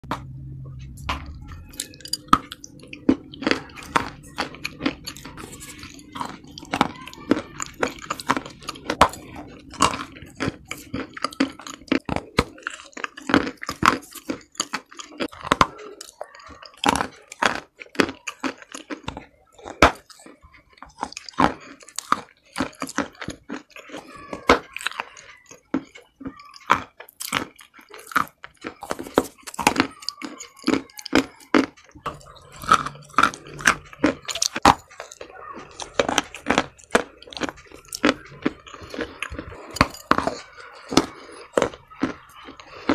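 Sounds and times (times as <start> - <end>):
chalk crunching while chewed: 1.0 - 42.9.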